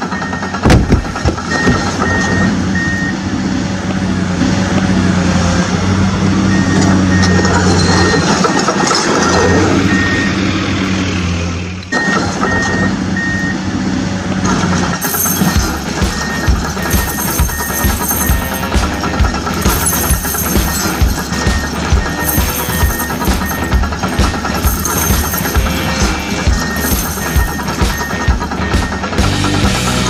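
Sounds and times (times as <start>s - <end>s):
reversing alarm beeping: 0.0s - 3.3s, 6.4s - 10.6s, 11.9s - 13.7s, 15.0s - 30.0s
truck engine drone: 0.0s - 30.0s.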